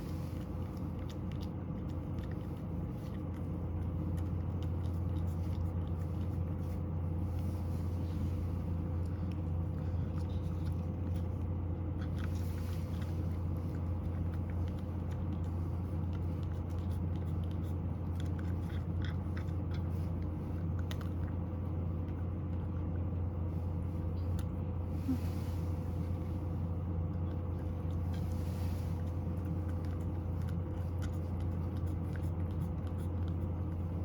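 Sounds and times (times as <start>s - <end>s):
cat crunching dry kibble: 0.0s - 24.6s, 26.6s - 34.0s
steady low hum: 0.0s - 34.0s.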